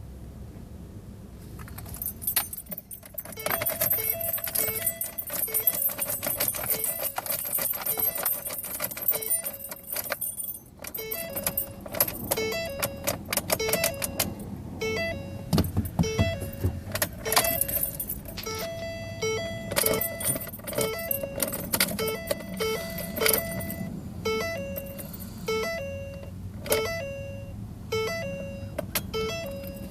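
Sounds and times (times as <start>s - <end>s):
keys jingling and clicking: 1.6s - 27.1s, 28.1s - 29.9s
car warning chime beeping: 1.8s - 29.9s.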